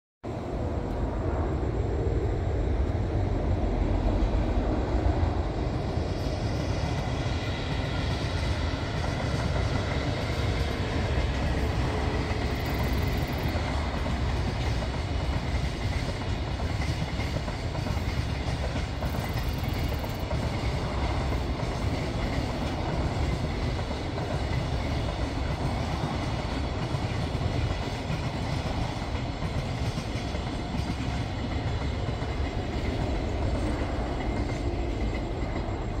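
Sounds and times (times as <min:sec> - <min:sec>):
freight train wheels rumbling on rails: 0:00.2 - 0:36.0.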